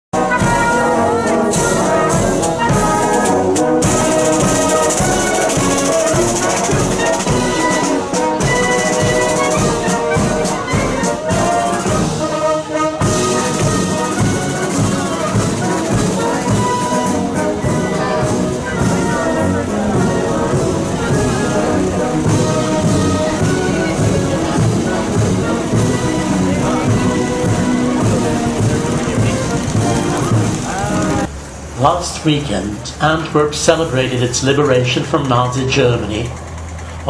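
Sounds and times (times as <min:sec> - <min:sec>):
trumpets and trombones: 0:00.2 - 0:31.9
marching band playing: 0:00.2 - 0:37.0.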